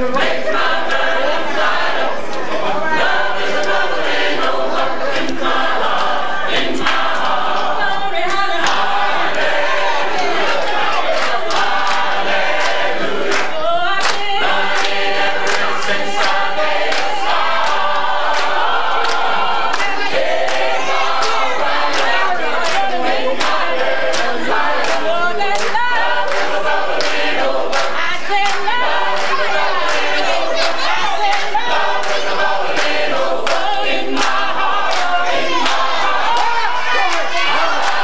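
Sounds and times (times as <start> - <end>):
gospel choir singing: 0.0 - 38.0
hand claps: 3.6 - 3.8, 5.2 - 7.7, 8.3 - 9.5, 10.4 - 38.0.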